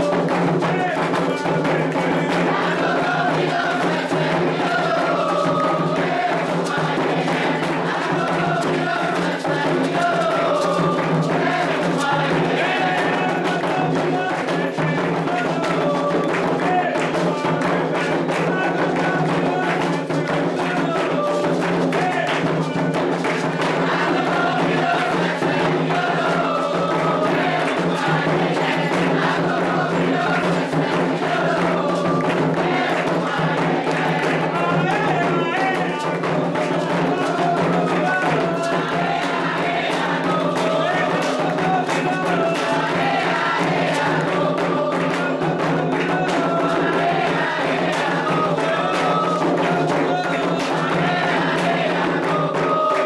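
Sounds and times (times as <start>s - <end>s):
group singing call-and-response: 0.0s - 53.0s
hand drumming and percussion: 0.0s - 53.0s.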